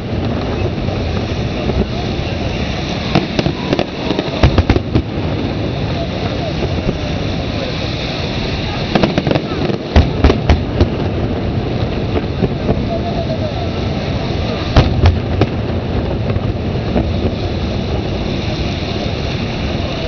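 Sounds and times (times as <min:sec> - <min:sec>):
fireworks bursting bangs: 0:00.0 - 0:20.0.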